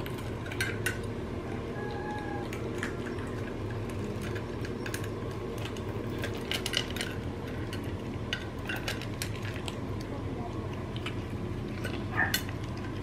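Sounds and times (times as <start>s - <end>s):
kittens chewing: 0.0s - 13.0s
steady low hum: 0.0s - 13.0s.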